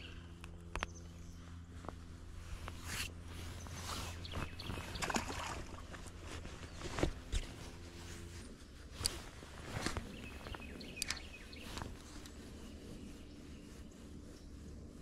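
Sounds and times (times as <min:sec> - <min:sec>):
rustling and handling noises: 0:00.6 - 0:15.0.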